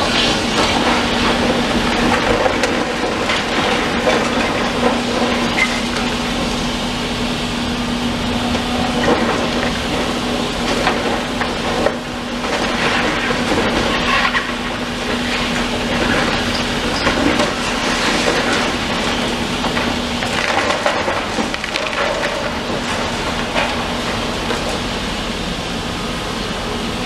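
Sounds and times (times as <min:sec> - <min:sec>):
debris cracking and crunching: 0:00.0 - 0:06.6, 0:09.0 - 0:24.8
demolition machinery running: 0:00.0 - 0:27.0.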